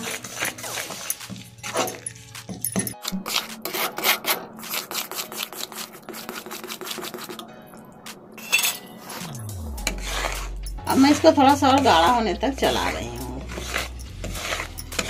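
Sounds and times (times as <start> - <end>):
spatula scraping metal pan: 0.0 - 2.2, 3.0 - 7.4, 8.4 - 15.0.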